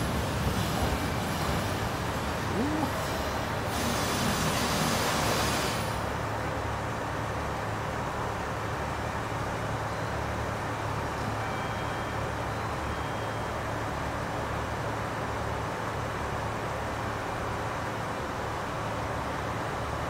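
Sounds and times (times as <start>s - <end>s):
diesel railcar engines idling: 0.0s - 20.0s.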